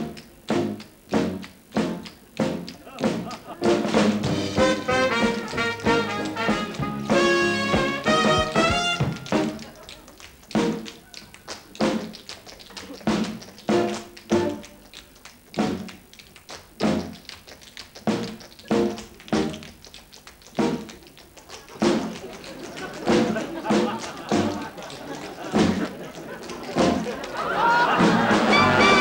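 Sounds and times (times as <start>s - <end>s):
swing band playing: 0.0s - 29.0s
tap shoes on stage floor: 0.0s - 29.0s.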